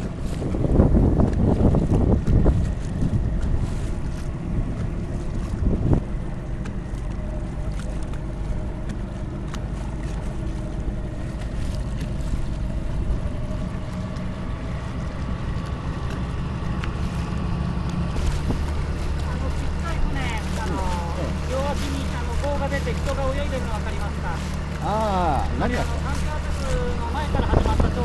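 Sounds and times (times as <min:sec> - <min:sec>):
wind on microphone: 0:00.0 - 0:23.5, 0:25.4 - 0:28.0
boat engine running: 0:00.0 - 0:28.0.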